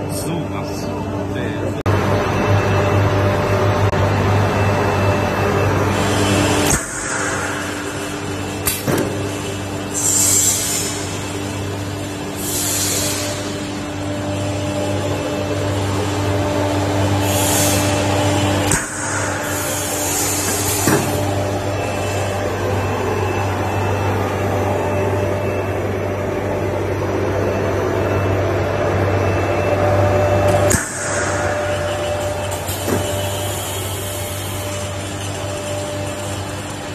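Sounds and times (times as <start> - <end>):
machine fan droning: 0.0 - 36.9.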